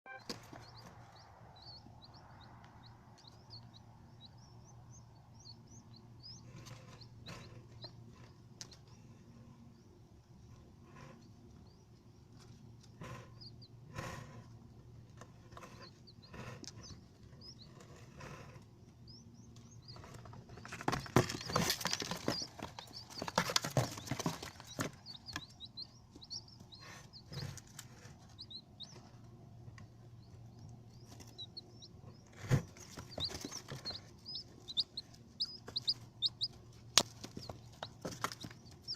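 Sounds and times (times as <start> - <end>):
small birds chirping: 0.1 - 38.9.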